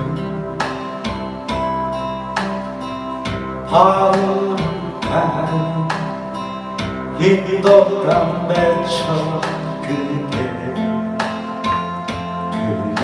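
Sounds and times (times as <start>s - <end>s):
pop ballad backing track: 0.0s - 13.0s.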